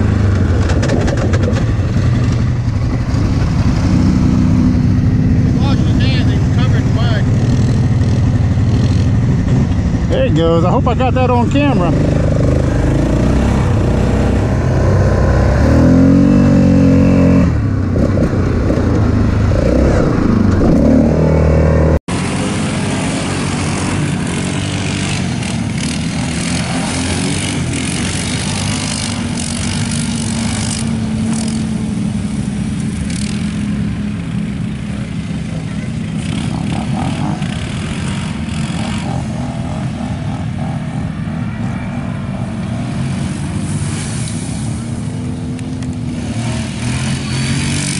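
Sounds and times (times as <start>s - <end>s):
atv engines revving: 0.0s - 47.9s
drone of atvs riding: 0.0s - 47.9s.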